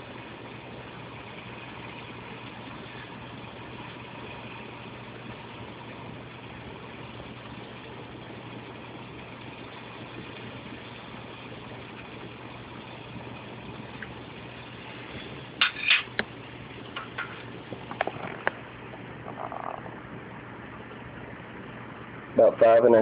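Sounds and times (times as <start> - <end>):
stove burning rushing noise: 0.0 - 23.0
water boiling: 0.0 - 23.0.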